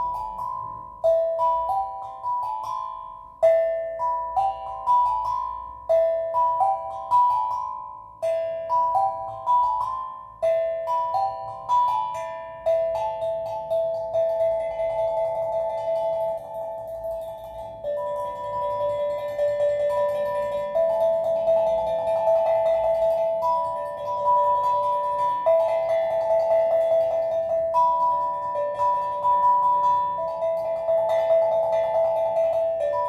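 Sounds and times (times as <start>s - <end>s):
steel drum playing gentle phrases: 0.0s - 33.0s.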